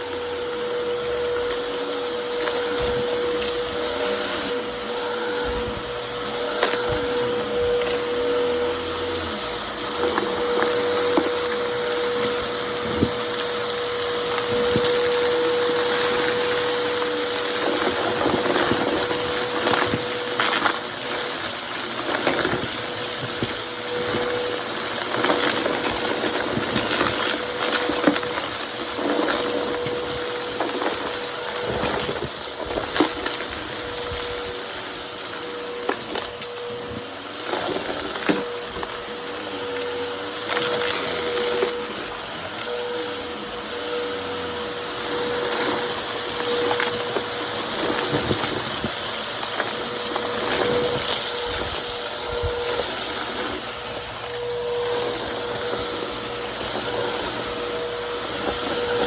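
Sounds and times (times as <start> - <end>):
debris rattling through hose: 0.0 - 59.0
vacuum cleaner motor whining: 0.0 - 59.0.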